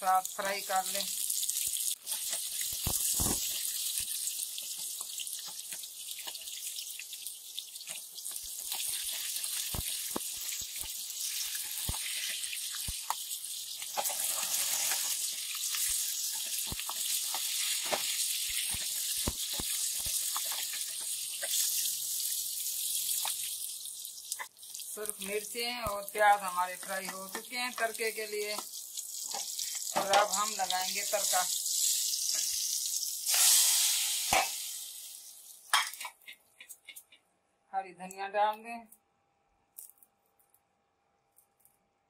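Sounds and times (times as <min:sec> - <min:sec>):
onions sizzling in hot oil: 0:00.0 - 0:36.3.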